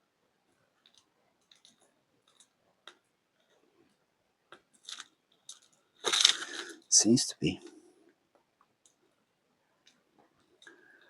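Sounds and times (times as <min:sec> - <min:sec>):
faint plastic clicks and ticks: 0:00.4 - 0:06.9, 0:07.6 - 0:11.0.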